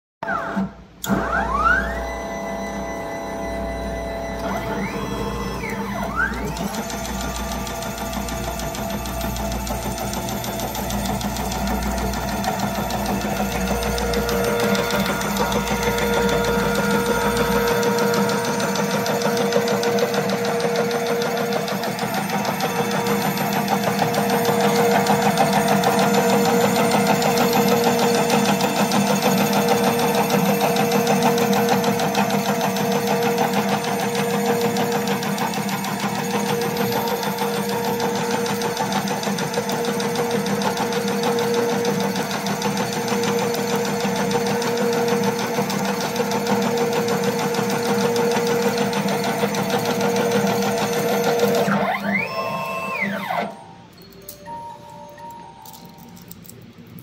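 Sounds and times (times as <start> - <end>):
tape wrapping machine whirring: 0.2 - 54.5.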